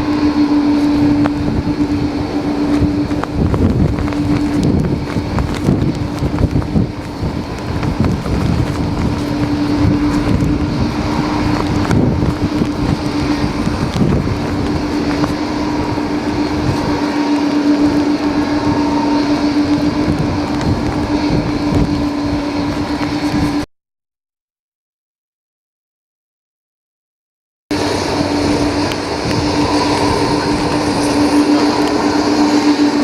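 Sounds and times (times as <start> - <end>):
gusty wind buffeting microphone: 0.0 - 23.7, 27.7 - 33.0
steady low hum: 0.0 - 23.7, 27.7 - 33.0.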